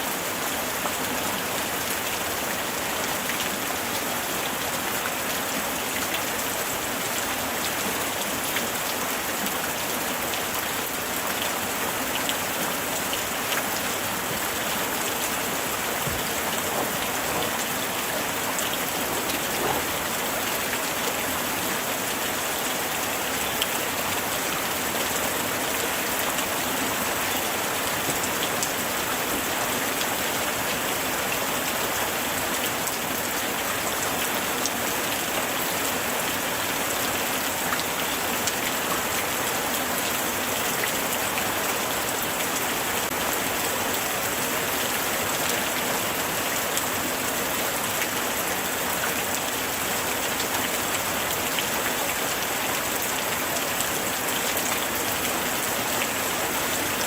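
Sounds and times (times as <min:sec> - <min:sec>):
light rain pattering: 0:00.1 - 0:57.0.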